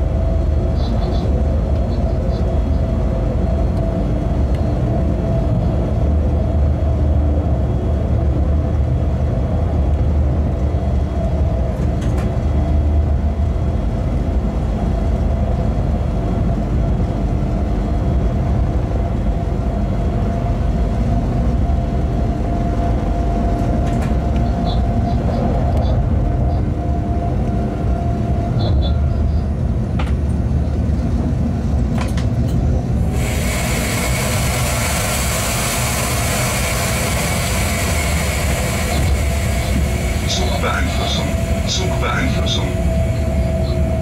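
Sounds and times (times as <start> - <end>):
wheels and track rumbling: 0.0 - 44.0.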